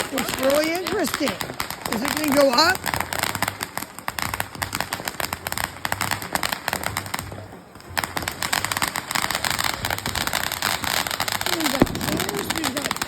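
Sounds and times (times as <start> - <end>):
ground fireworks crackling: 0.0 - 13.0.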